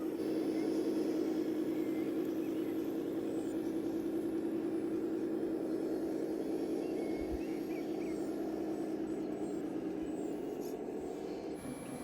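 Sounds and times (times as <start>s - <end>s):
model vehicle motor hum: 0.0s - 12.0s.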